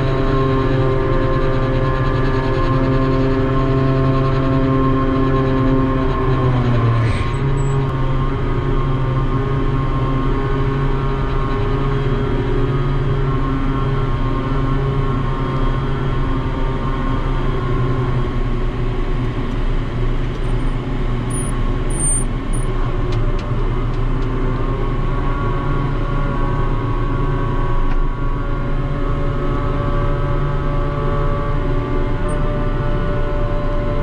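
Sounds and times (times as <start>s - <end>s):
crane machinery droning: 0.0s - 34.0s
high machine whine: 0.0s - 34.0s.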